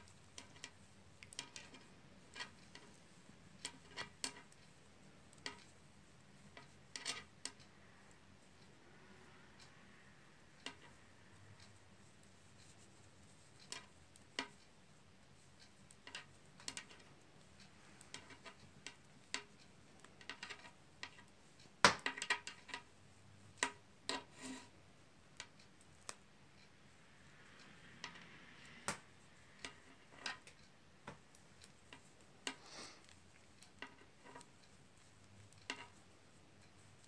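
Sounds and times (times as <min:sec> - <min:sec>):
metal knitting needles clicking: 0:00.0 - 0:37.0.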